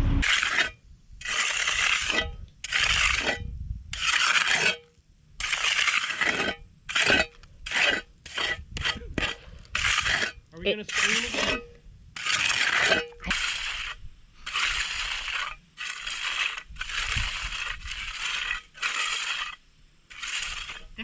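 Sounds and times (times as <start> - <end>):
hand tool scraping wet concrete: 0.1 - 21.0.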